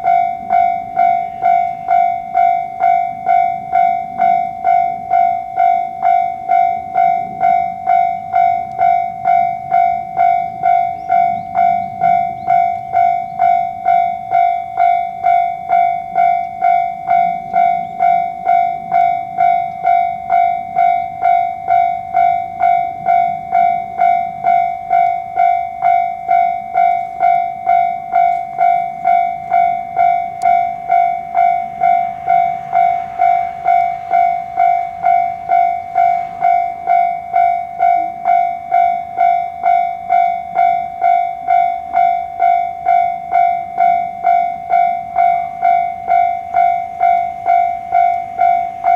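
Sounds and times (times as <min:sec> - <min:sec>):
level crossing warning bell: 0:00.0 - 0:48.9.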